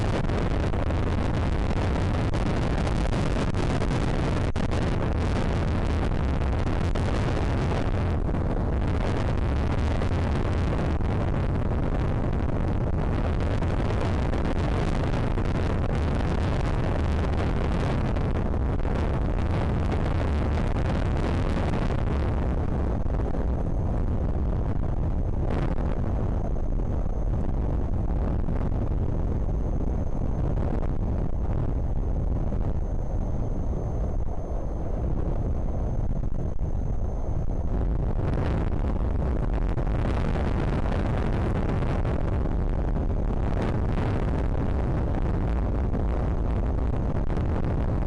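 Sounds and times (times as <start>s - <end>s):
strong wind buffeting microphone: 0.0s - 48.0s.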